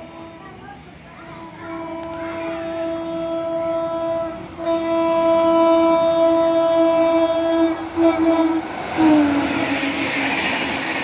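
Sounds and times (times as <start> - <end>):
electric locomotive horn: 0.0 - 0.6, 1.4 - 10.2.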